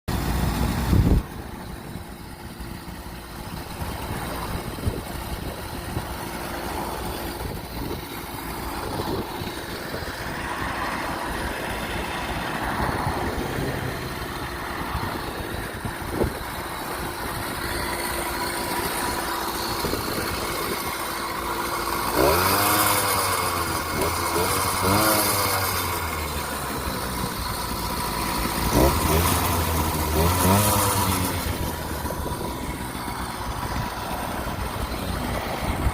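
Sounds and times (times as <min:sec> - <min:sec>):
two-stroke engine idling and revving: 0:00.1 - 0:35.9.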